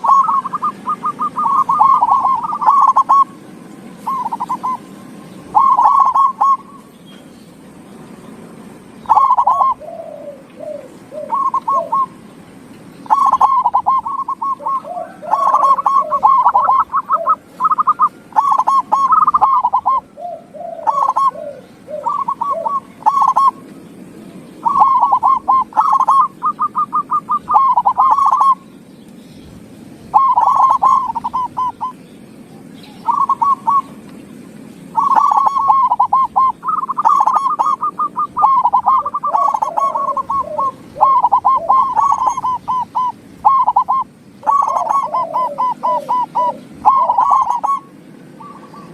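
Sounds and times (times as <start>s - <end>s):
doves cooing: 0.0s - 28.8s, 29.4s - 48.9s.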